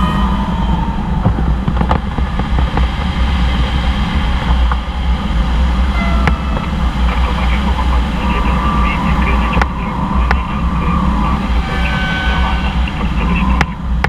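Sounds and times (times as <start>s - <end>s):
airflow rushing around glider canopy: 0.5s - 12.0s, 12.7s - 14.0s.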